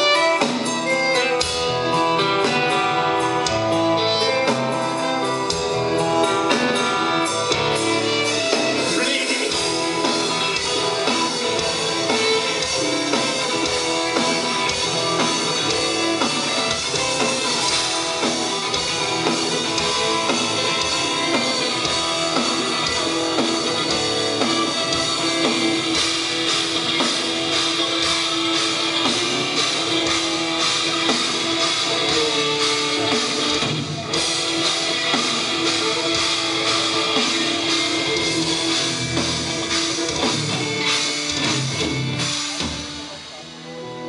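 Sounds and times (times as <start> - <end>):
bowed violin: 0.0 - 39.2
drums: 0.0 - 44.0
electric guitar: 0.0 - 44.0.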